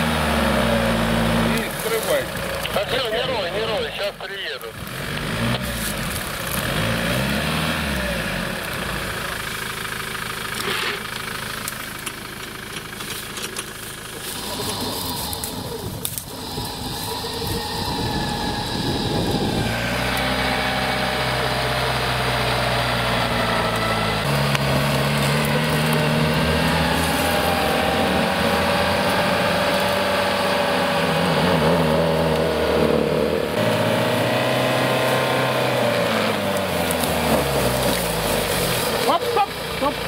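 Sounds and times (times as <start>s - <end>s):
diesel engine under load: 0.0s - 40.0s.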